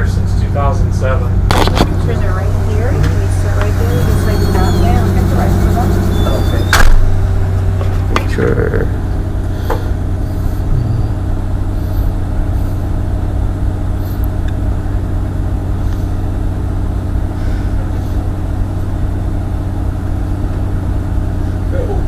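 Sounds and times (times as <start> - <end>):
low engine drone: 0.0 - 22.0.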